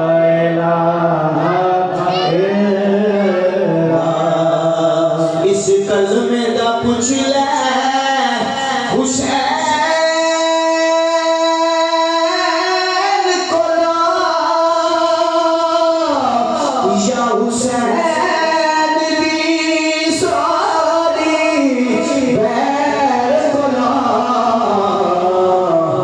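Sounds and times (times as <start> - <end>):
person singing long notes: 0.0 - 5.5, 6.8 - 26.0.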